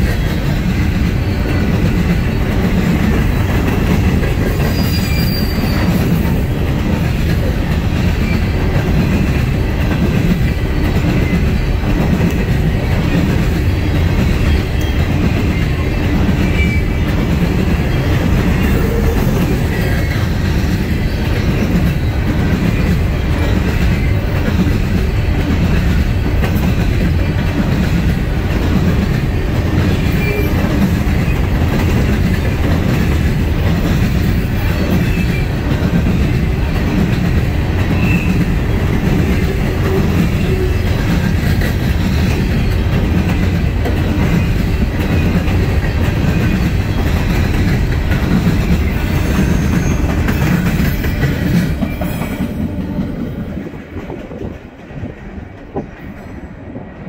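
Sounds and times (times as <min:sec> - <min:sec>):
train wheels clattering over rail joints: 0:00.0 - 0:56.8.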